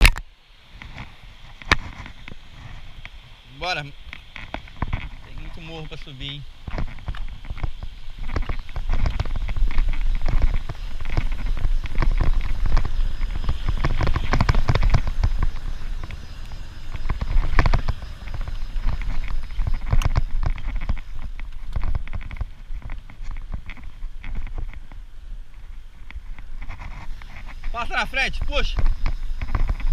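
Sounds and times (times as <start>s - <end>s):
bicycle tyres and frame rattling: 0.0s - 29.9s
wind rumble on microphone: 0.0s - 29.9s.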